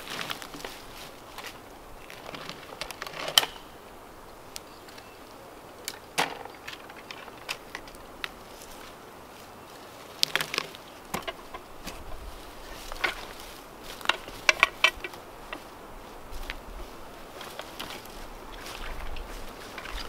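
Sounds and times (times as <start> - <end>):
footsteps in grass and leaves: 0.0 - 5.4, 6.0 - 20.0.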